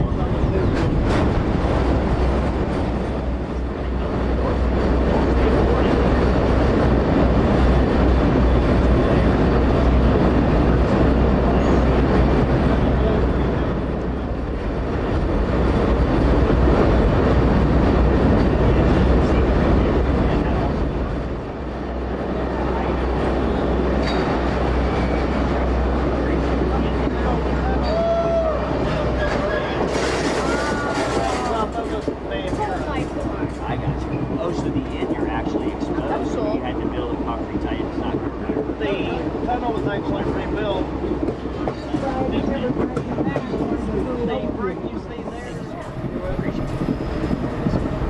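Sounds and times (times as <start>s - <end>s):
low locomotive drone: 0.0s - 48.0s
train wheels rattling on rail: 0.0s - 48.0s.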